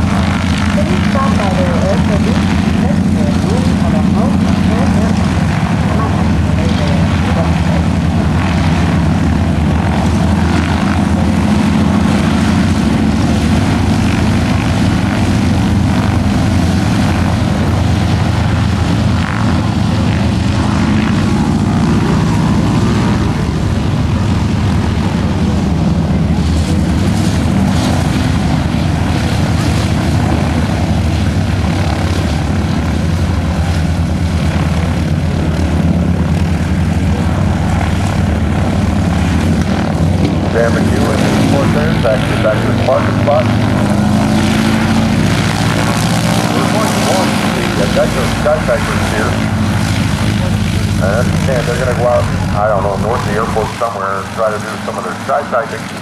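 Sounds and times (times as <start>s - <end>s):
propeller plane engine running: 0.0s - 56.0s.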